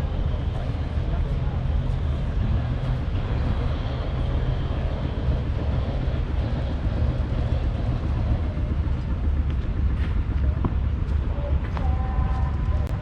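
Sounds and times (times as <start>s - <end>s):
diesel engine throbbing: 0.0s - 13.0s.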